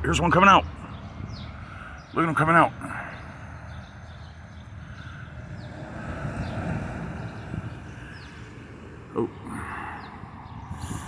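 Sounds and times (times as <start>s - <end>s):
distant engine rumble: 0.0s - 11.0s.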